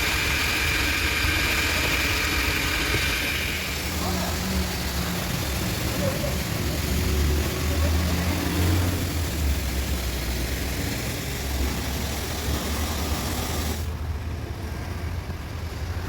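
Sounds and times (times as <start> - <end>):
water spray hiss: 0.0 - 13.9
pressure washer motor hum: 0.0 - 14.0.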